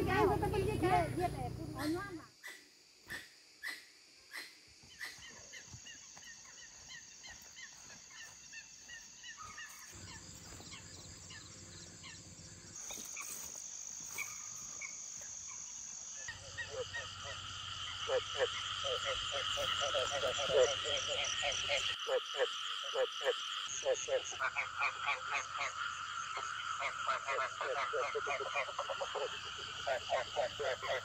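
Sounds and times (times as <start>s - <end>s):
crickets trilling: 0.0s - 31.0s
frogs croaking: 0.0s - 31.0s
insects chirping: 0.0s - 31.0s.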